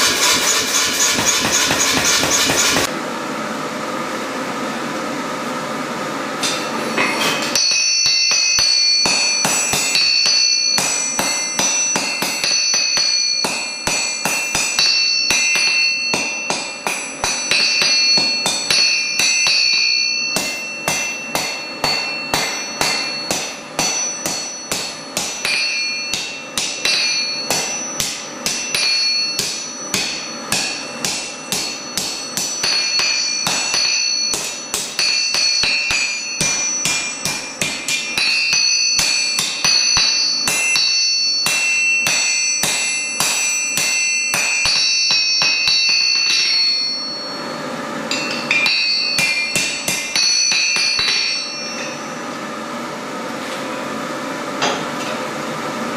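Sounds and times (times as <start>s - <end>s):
hammer striking anvil: 0.0s - 2.9s, 6.4s - 52.6s, 54.6s - 55.2s.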